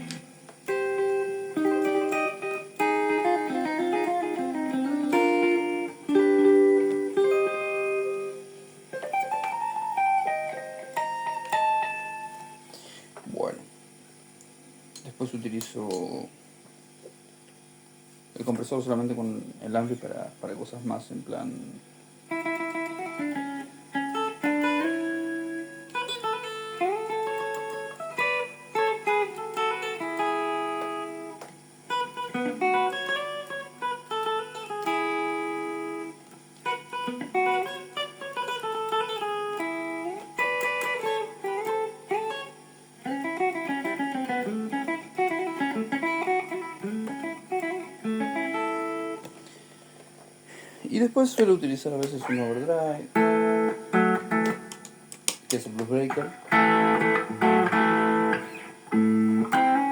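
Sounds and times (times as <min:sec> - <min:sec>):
clean electric guitar: 0:00.0 - 0:17.7, 0:21.1 - 0:59.9.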